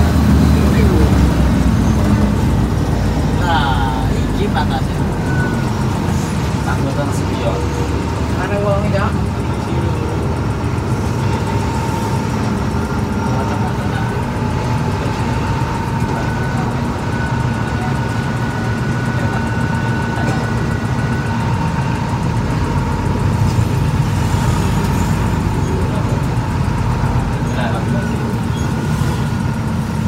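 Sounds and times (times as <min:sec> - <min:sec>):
bus engine low rumble: 0:00.0 - 0:30.0.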